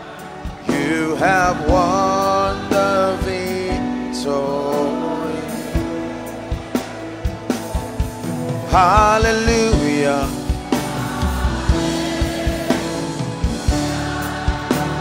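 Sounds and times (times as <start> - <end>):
drum kit beat: 0.0 - 15.0
live gospel band playing: 0.0 - 15.0.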